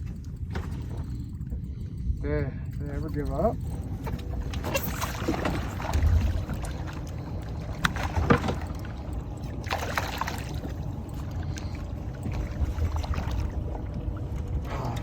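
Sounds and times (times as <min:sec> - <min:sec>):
water lapping against boat: 0:00.0 - 0:15.0
wind rumble on microphone: 0:00.0 - 0:15.0.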